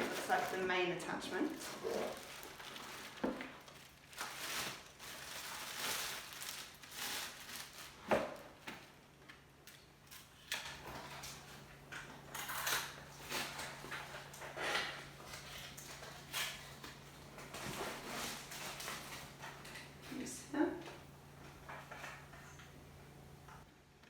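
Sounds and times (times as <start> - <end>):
plastic packaging rustling: 0.0 - 20.3.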